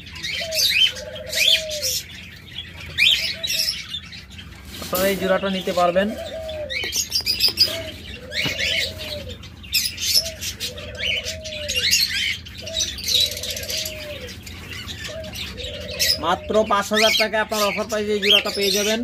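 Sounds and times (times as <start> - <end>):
birds chirping: 0.0 - 19.0
dove cooing: 0.0 - 19.0.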